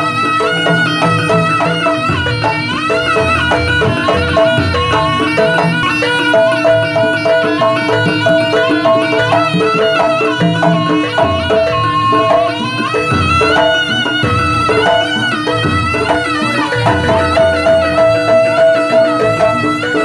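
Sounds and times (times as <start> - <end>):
hand drumming: 0.0 - 20.0
shawm melody: 0.0 - 20.0.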